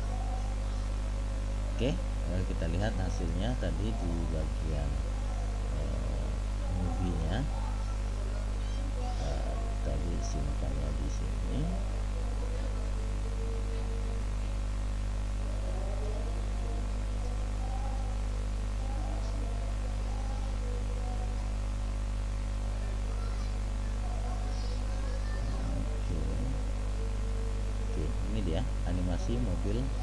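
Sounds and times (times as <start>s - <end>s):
electrical mains hum: 0.0s - 30.0s
faint wavering background sounds: 0.0s - 30.0s.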